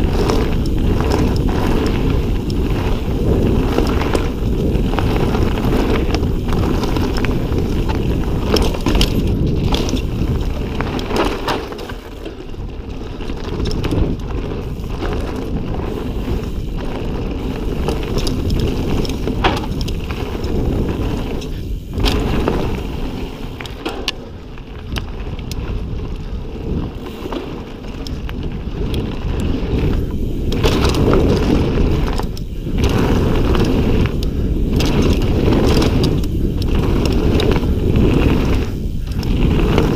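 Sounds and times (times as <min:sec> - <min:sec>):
bike clicks and rattles: 0:00.0 - 0:39.9
tyres on dirt: 0:00.0 - 0:39.9
wind rushing over microphone: 0:00.0 - 0:39.9.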